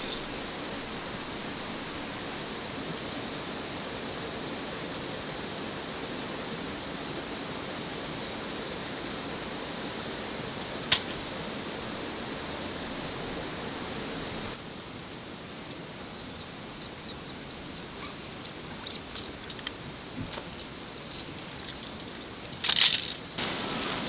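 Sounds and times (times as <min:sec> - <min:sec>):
rain hissing: 0:00.0 - 0:15.1, 0:17.5 - 0:24.0.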